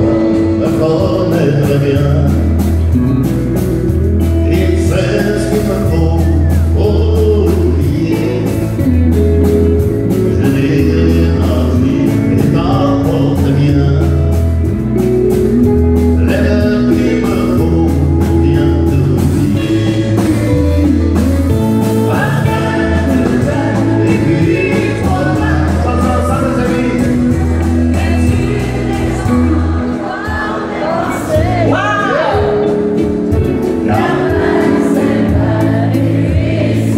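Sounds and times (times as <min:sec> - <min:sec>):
person singing: 0:00.0 - 0:03.5, 0:04.2 - 0:14.7, 0:16.0 - 0:36.9
country band playing live: 0:00.0 - 0:36.9.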